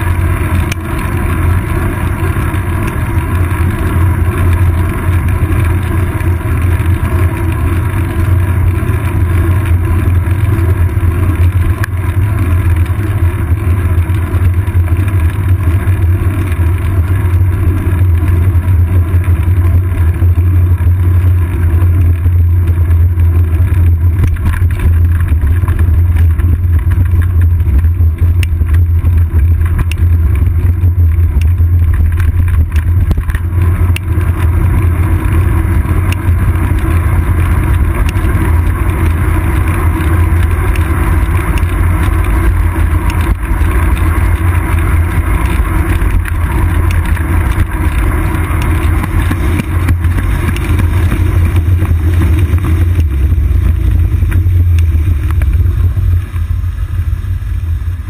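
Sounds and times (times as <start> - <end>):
road vibration: 0.0 - 58.0
tyres clicking on concrete: 0.1 - 55.7.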